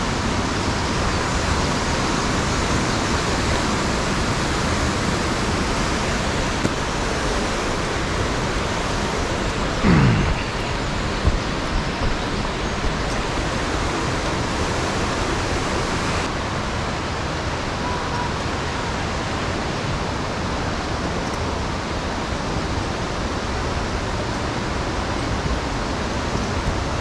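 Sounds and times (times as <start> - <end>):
stream rushing: 0.0 - 27.0.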